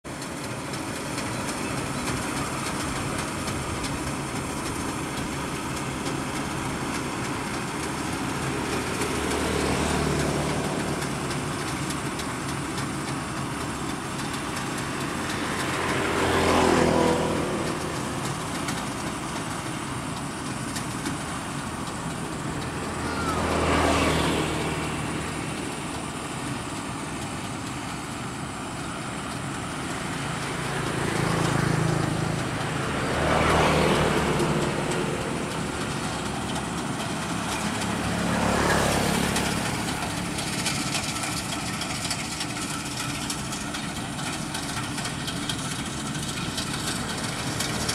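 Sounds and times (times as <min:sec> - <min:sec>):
combine harvester engine droning: 0:00.0 - 0:47.9.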